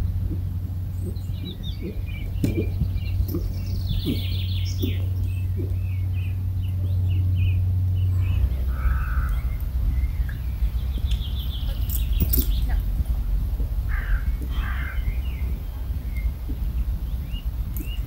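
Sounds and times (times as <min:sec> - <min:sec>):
birds chirping and singing: 0:00.0 - 0:18.0
wind rumble on microphone: 0:00.0 - 0:18.0.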